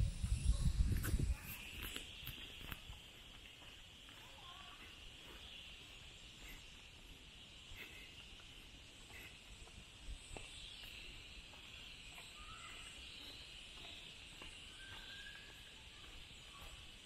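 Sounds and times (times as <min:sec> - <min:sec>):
insect chorus: 0:00.0 - 0:17.0
footsteps on wooden boardwalk: 0:00.2 - 0:17.0
bird chirps: 0:01.4 - 0:17.0.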